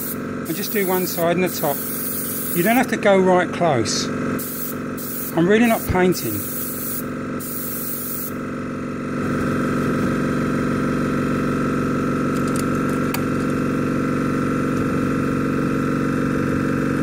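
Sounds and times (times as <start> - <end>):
air compressor motor hum: 0.0 - 17.0.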